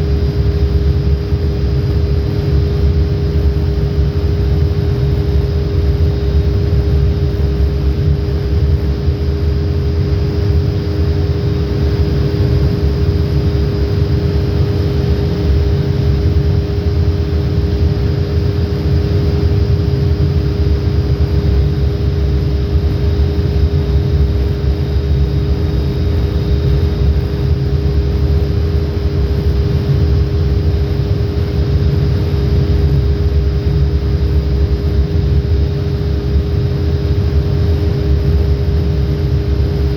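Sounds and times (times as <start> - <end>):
constant hum: 0.0 - 39.9.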